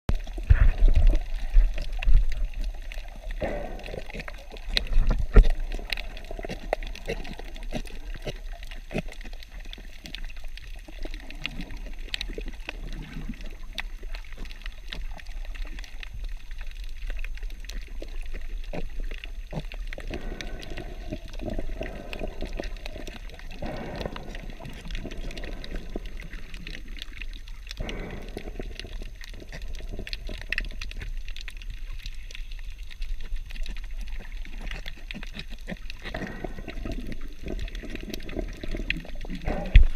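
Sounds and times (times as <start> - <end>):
muffled underwater gurgling: 0.1 - 39.9.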